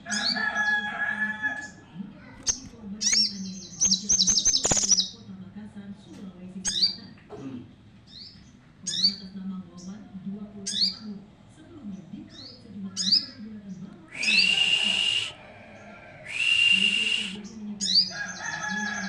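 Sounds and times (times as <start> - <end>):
bird song: 0.0 - 1.8, 2.4 - 5.3, 6.6 - 7.2, 8.0 - 10.0, 10.6 - 11.2, 11.9 - 19.0.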